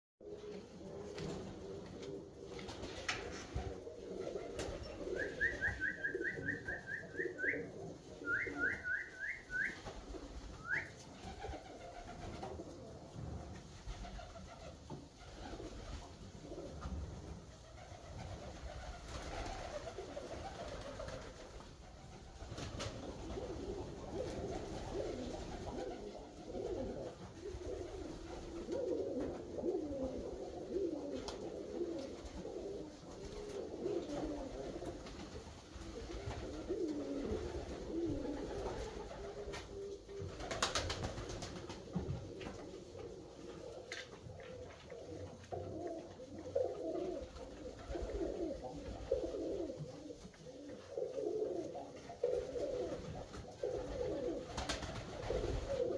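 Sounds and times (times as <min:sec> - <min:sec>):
pigeons cooing: 0:00.2 - 0:13.2, 0:14.0 - 0:55.9.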